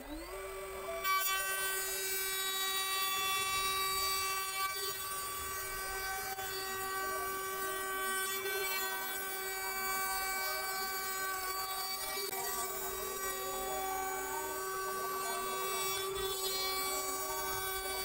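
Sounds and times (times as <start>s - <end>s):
hiss of cutting wood: 0.0s - 18.0s
router spindle high whine: 0.0s - 18.0s.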